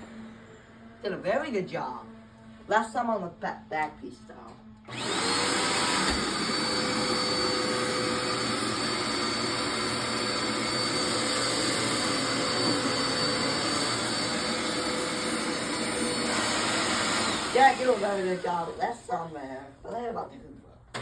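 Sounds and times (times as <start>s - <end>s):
vacuum cleaner running: 0.0s - 3.3s, 4.4s - 19.7s.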